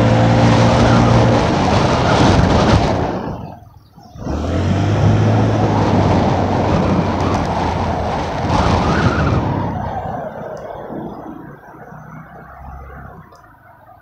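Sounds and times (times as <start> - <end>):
wind rush on microphone: 0.0 - 12.2
low engine hum: 0.0 - 13.9.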